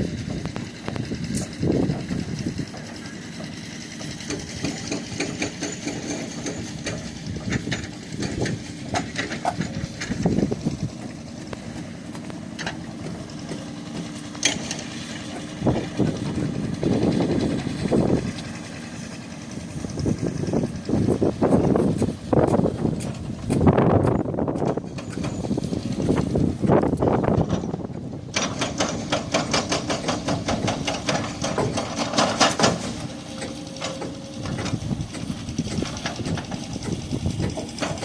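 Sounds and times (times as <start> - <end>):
engine running: 0.0 - 38.0
scattered clicks and knocks: 0.4 - 18.5, 20.1 - 38.0.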